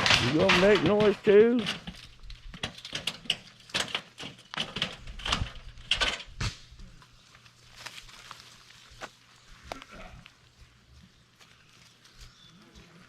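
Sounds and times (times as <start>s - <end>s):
goat hooves clicking and knocking: 0.0s - 12.2s.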